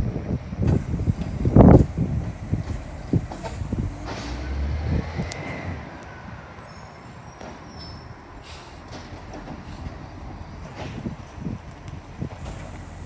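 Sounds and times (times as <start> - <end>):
garbage truck engine running: 0.0 - 5.3, 7.3 - 13.0.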